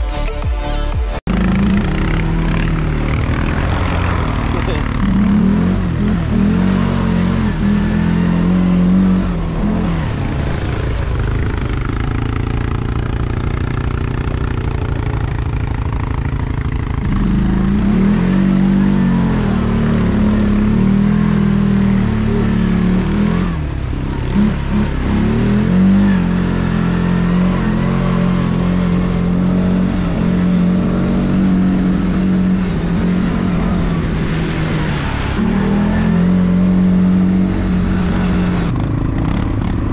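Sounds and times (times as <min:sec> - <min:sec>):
atv engine revving under load: 0:01.3 - 0:39.9.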